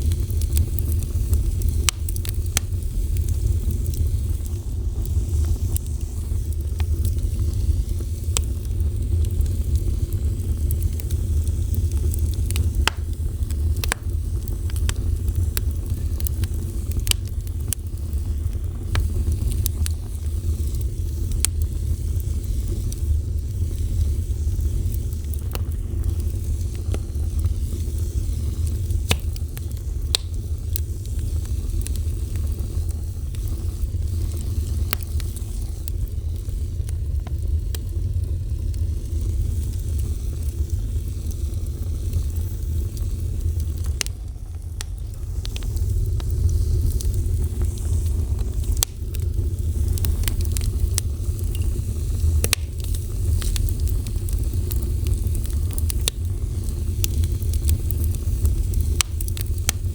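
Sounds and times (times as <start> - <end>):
burning wood crackling and popping: 0.0 - 59.9
low rumble of flames: 0.0 - 59.9.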